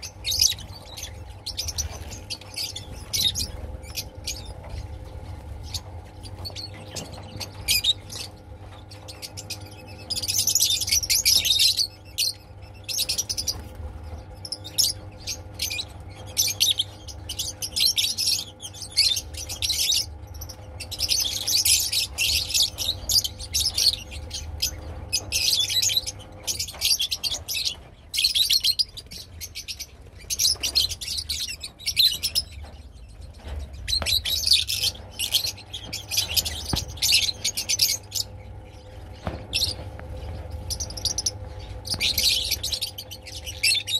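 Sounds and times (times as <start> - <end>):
faint steady hum: 0.0 - 43.9
lovebirds chirping: 0.0 - 43.9.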